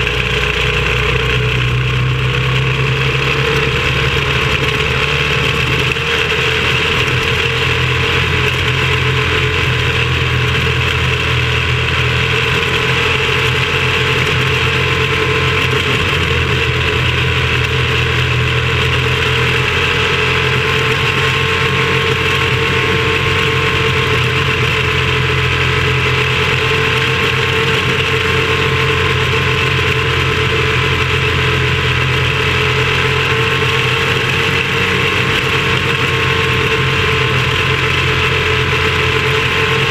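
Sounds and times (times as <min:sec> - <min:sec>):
racing car engine buzzing: 0:00.0 - 0:39.9
road noise: 0:00.0 - 0:39.9.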